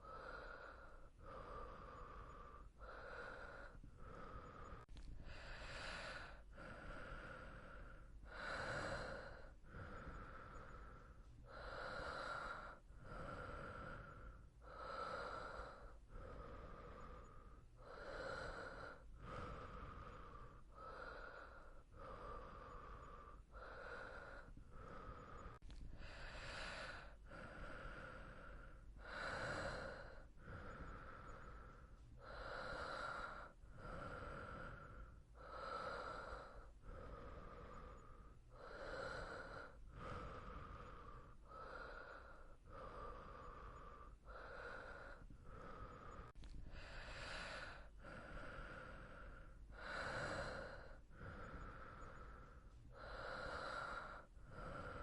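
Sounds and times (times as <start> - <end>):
person breathing softly: 0.0 - 55.0.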